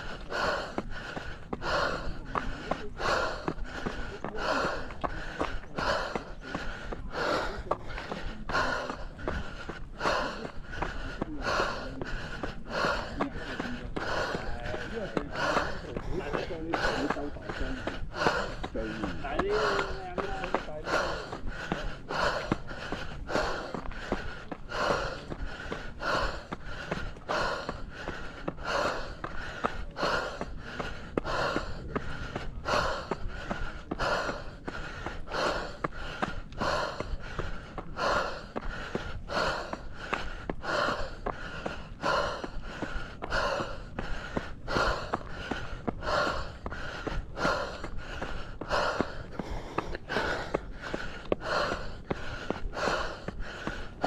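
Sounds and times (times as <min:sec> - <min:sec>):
heavy rhythmic breathing: 0:00.0 - 0:54.0.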